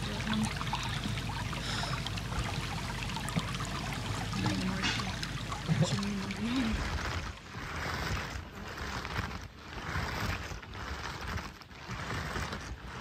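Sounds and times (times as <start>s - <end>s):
water splashing in a brook: 0.0s - 13.0s.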